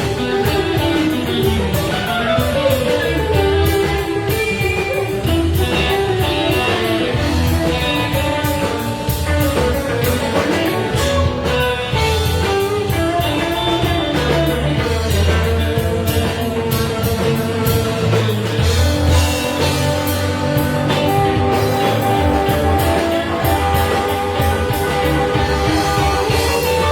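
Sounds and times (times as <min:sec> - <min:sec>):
live blues-rock band: 0:00.0 - 0:26.9.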